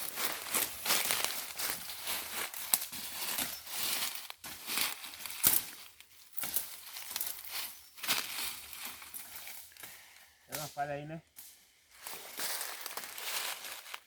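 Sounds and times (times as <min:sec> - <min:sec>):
dry leaves rustling and crackling: 0:00.0 - 0:09.9, 0:11.9 - 0:14.0.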